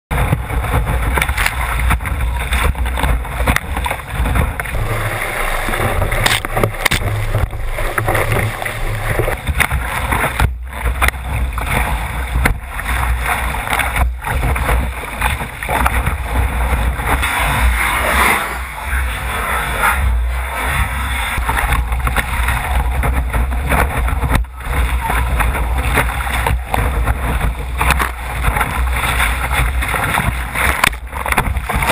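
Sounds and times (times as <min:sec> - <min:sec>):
wind buffeting microphone: 0:00.1 - 0:18.9, 0:21.2 - 0:31.9
paddle splashing in water: 0:00.1 - 0:31.9
surf breaking: 0:00.1 - 0:31.9.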